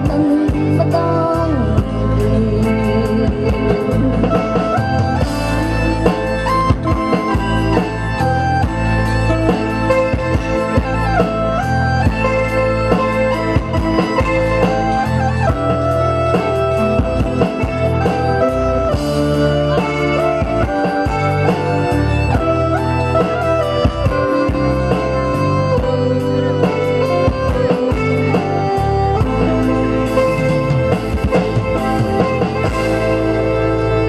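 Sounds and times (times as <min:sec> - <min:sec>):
drum kit beat: 0:00.0 - 0:34.0
electric guitar: 0:00.0 - 0:34.0
electronic keyboard melody: 0:00.0 - 0:34.0.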